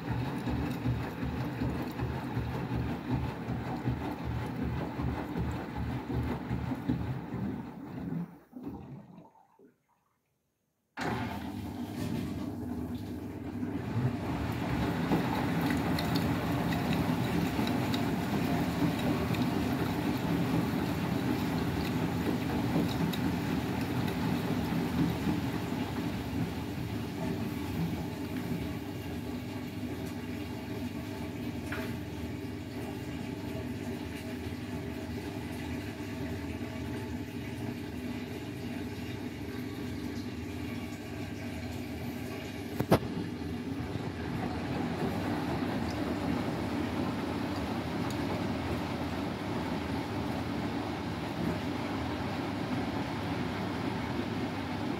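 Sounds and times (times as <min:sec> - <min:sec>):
washing machine drum sloshing: 0:00.0 - 0:09.7, 0:11.0 - 0:54.9.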